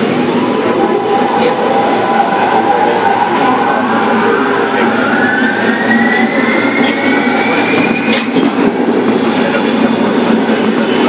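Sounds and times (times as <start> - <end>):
train cars running noise: 0.0 - 11.0.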